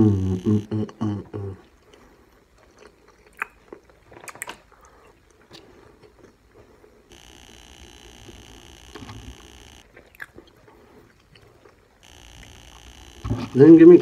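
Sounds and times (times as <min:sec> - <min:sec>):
person chewing food: 0:01.3 - 0:13.6.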